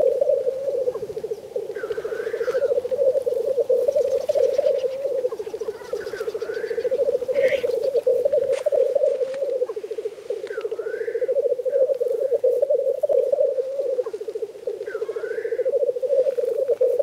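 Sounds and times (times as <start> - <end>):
grouse bubbling cooing song: 0.0 - 17.0
higher rising and falling bird calls: 0.8 - 16.6.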